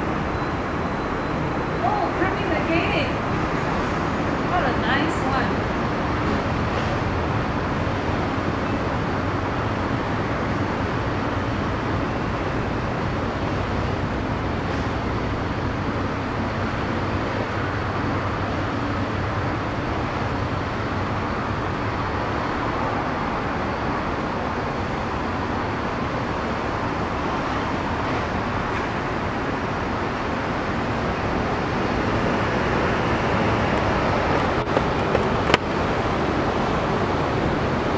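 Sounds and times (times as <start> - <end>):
diesel engine rumbling: 0.0 - 37.9
rushing noise: 0.0 - 37.9.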